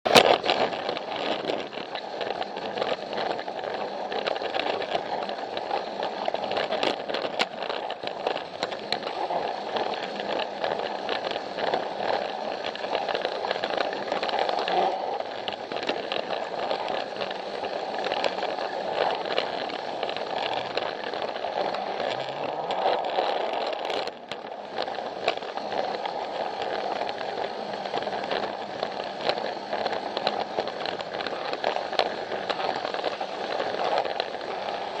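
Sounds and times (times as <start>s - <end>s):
toy train motor whir: 0.1s - 35.0s
wheels clicking over track joints: 0.1s - 35.0s.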